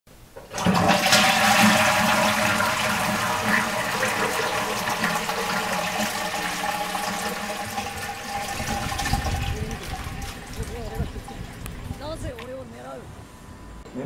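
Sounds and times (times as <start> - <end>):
toilet flushing: 0.4 - 12.0.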